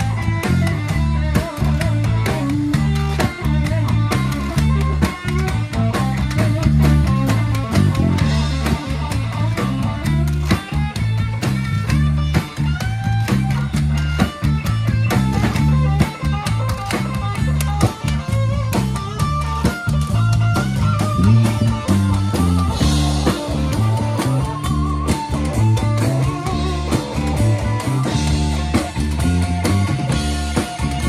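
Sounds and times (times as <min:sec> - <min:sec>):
bass guitar: 0:00.0 - 0:31.0
drum kit with cymbal hits: 0:00.0 - 0:31.0
electric guitar: 0:00.0 - 0:31.0.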